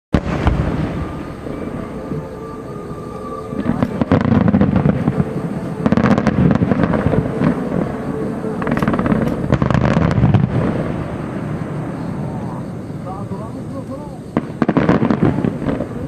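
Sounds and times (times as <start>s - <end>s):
deep rumble: 0.2s - 13.6s
fireworks crackling bursts: 0.2s - 16.0s.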